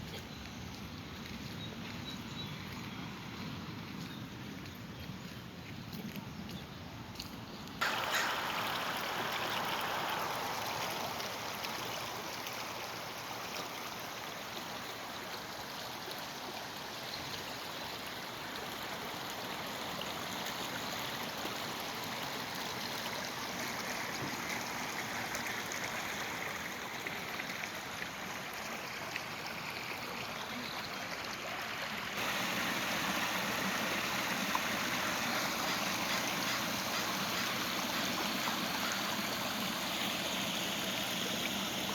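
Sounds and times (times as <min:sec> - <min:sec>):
running water rushing: 0:07.8 - 0:41.9.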